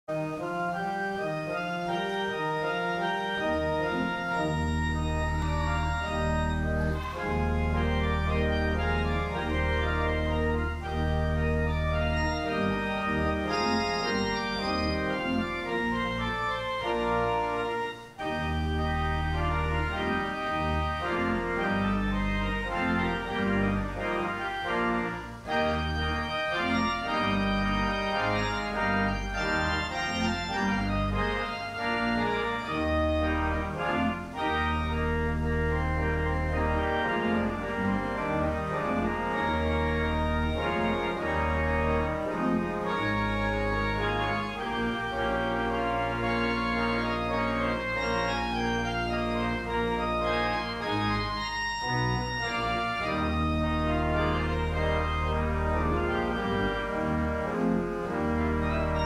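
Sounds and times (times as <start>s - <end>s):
church organ playing chords: 0.1s - 59.0s.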